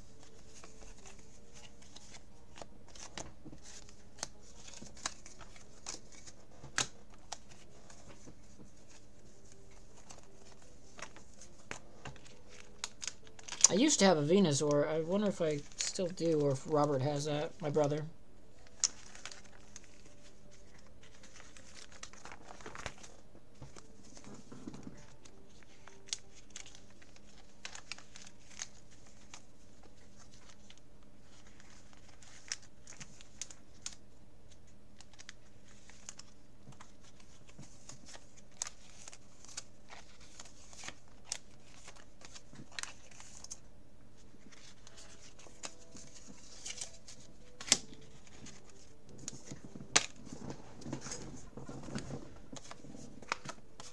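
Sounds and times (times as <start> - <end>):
plastic pages rustling and crinkling: 0.0 - 53.9.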